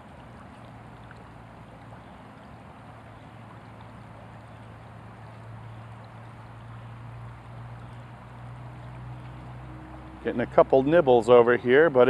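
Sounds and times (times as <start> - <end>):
creek water running over rocks: 0.0 - 12.0
low steady hum: 0.0 - 12.0.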